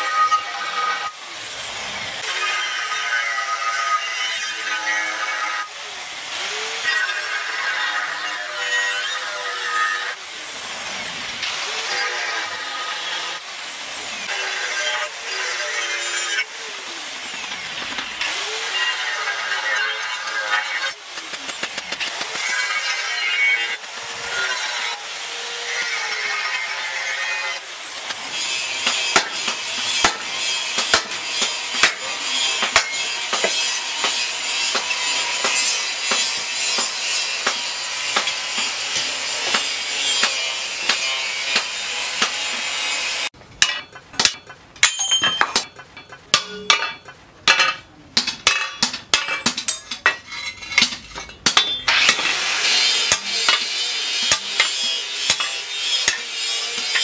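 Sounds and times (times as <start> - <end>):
angle grinder cutting steel: 0.0 - 57.0.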